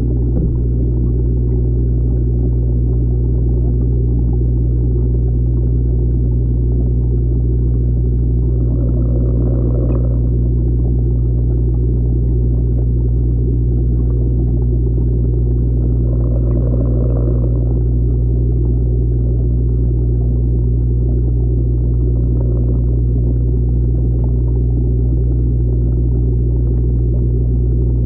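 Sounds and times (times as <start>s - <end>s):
constant rumble: 0.0s - 28.0s
low hum with overtones: 0.0s - 28.0s.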